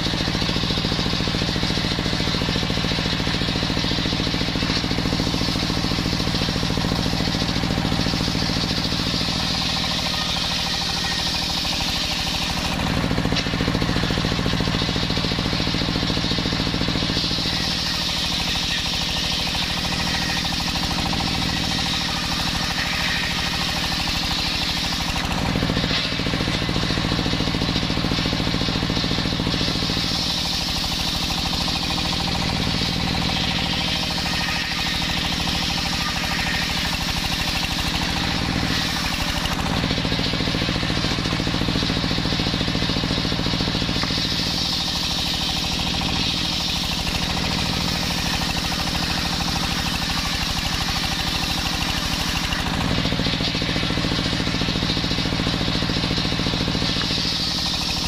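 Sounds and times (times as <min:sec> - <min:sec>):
engine drone: 0:00.0 - 0:58.0
saw blade cutting wood: 0:00.0 - 0:58.0.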